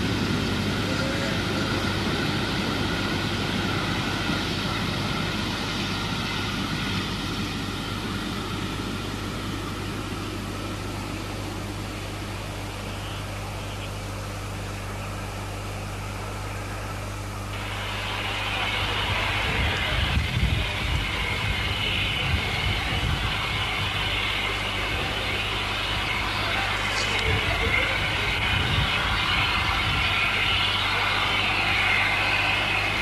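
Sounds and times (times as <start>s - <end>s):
steady low hum: 0.0s - 33.0s
steam train running: 0.0s - 33.0s.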